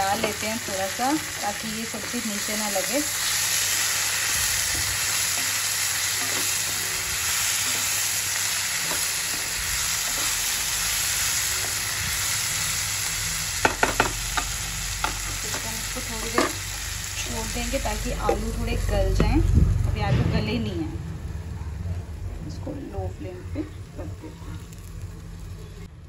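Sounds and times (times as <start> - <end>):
vegetables sizzling in a pan: 0.0 - 19.9, 22.4 - 25.9.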